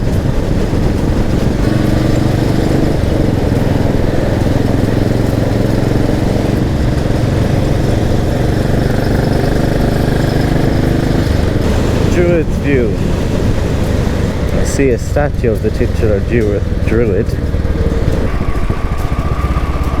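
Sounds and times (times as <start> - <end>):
motorcycle engine cruising: 0.0 - 20.0
road noise: 0.0 - 20.0
wind noise: 0.0 - 20.0.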